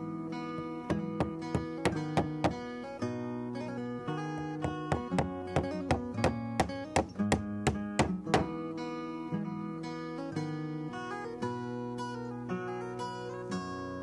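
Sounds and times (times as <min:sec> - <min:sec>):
acoustic guitar plucked and strummed: 0:00.0 - 0:14.0.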